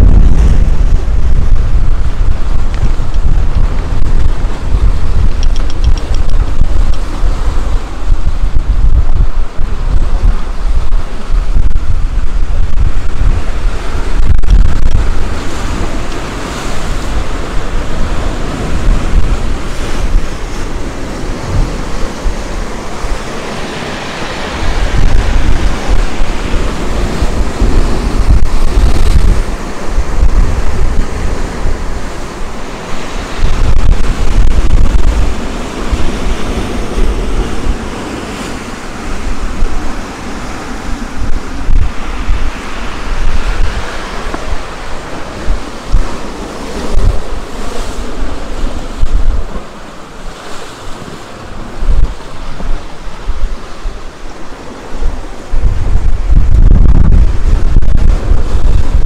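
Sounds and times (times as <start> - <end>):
sea waves breaking on beach: 0.0 - 59.0
wind buffeting microphone: 0.0 - 59.0.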